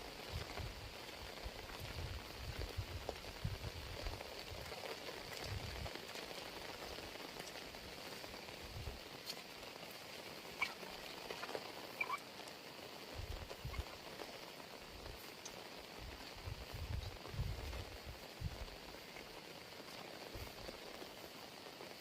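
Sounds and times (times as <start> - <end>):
heavy rain: 0.0 - 22.0
raindrops ticking close by: 0.0 - 22.0.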